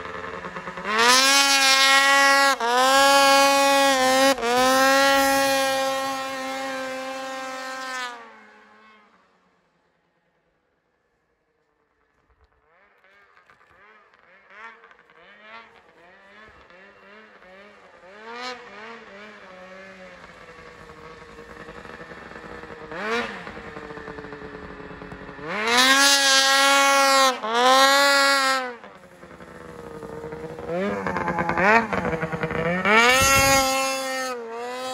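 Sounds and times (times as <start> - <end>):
snowmobile engine revving: 0.0 - 9.1, 12.7 - 34.9.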